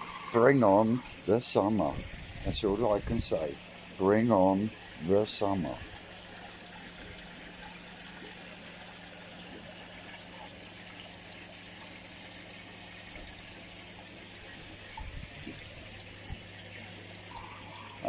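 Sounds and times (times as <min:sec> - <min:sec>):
pump humming: 0:00.0 - 0:18.0
water splashing and trickling: 0:00.0 - 0:18.0.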